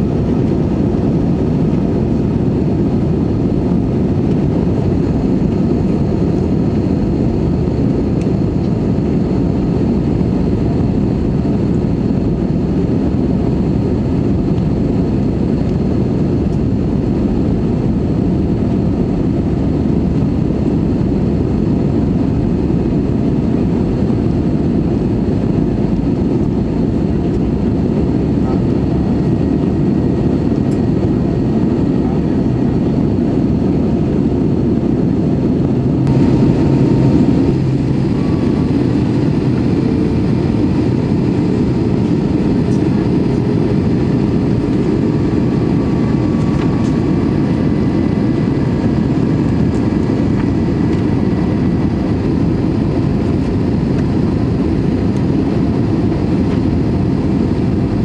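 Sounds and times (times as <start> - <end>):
airplane cabin roar: 0.0 - 58.0.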